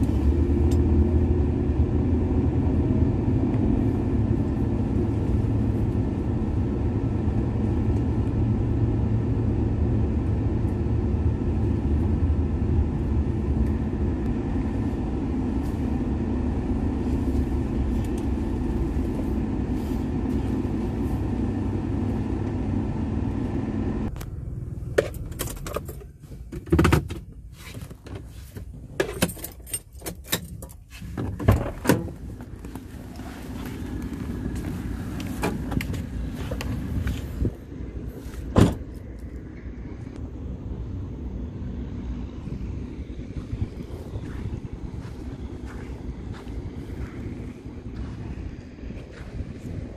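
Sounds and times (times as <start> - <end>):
car interior road rumble: 0.0 - 49.9.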